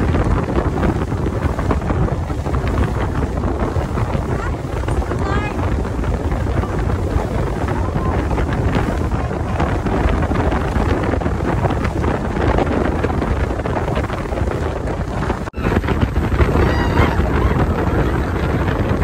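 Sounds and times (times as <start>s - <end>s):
boat running noise: 0.0s - 19.0s
wind buffeting microphone: 0.0s - 19.0s.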